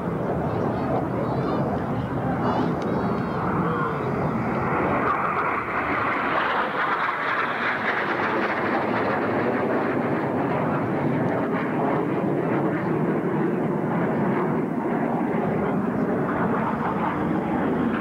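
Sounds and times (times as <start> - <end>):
jets flying overhead: 0.0 - 18.0.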